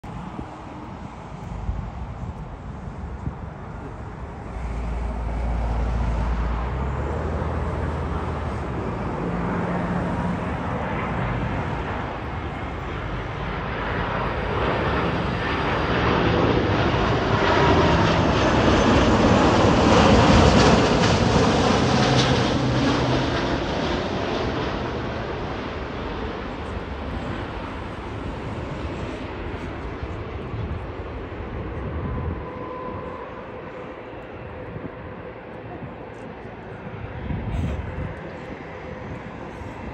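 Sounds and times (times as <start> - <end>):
airliner jet engines passing: 0.0 - 39.9.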